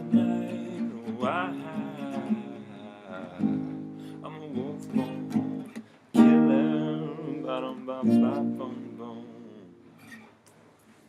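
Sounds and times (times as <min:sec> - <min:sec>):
acoustic guitar strumming: 0:00.0 - 0:10.4.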